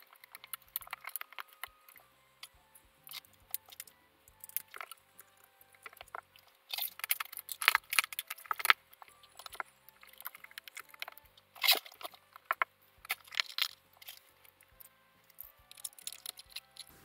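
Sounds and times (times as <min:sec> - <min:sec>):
plastic connectors clicking and rattling: 0:00.0 - 0:17.0
soft background music: 0:00.0 - 0:17.0.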